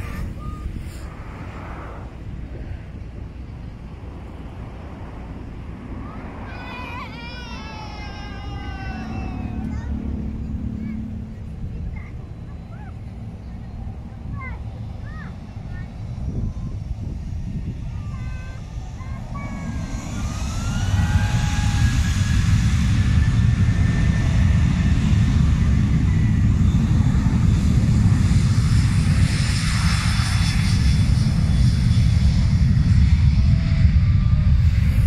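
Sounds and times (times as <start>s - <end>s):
airliner engines at take-off: 0.0s - 35.0s.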